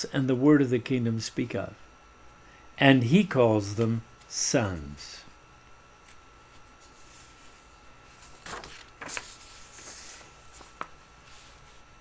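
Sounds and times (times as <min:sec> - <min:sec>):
faint high-pitched hum: 0:00.0 - 0:12.0.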